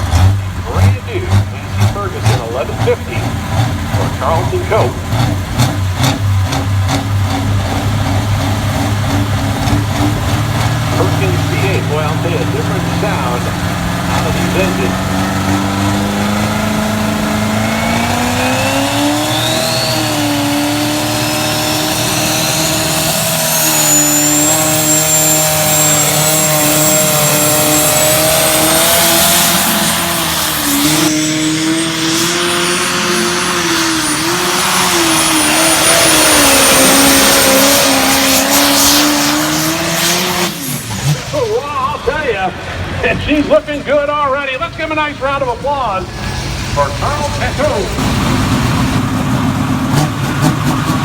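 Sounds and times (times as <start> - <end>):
diesel tractor engine at high revs: 0.0 - 51.0.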